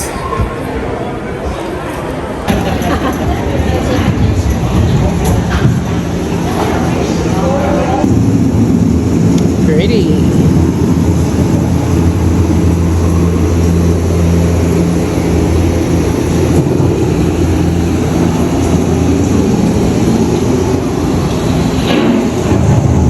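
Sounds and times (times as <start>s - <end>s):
ride boat rumble and hum: 0.0s - 23.0s.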